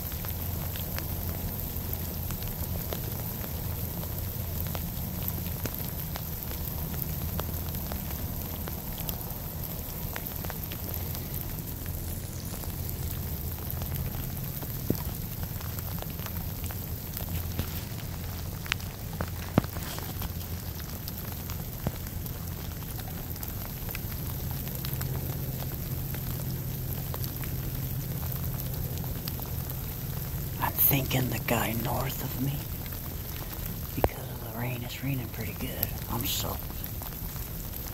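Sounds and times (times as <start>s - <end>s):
hard rain falling: 0.0s - 37.9s.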